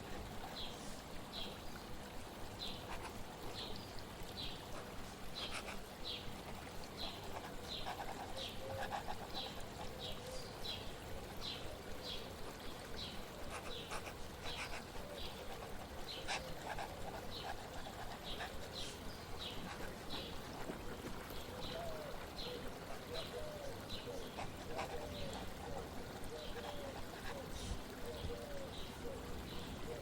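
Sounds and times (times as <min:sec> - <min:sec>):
water flowing: 0:00.0 - 0:30.0.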